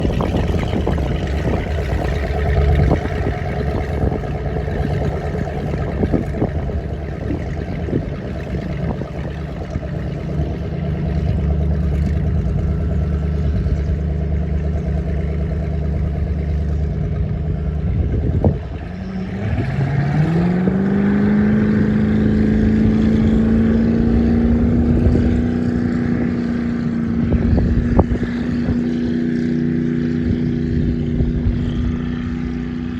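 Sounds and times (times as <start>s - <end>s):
boat engine rumbling: 0.0s - 32.9s.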